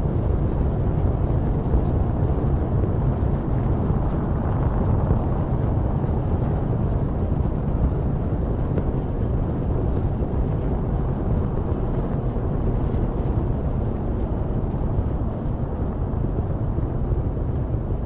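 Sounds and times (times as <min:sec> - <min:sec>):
rocket exhaust rumble: 0:00.0 - 0:18.0.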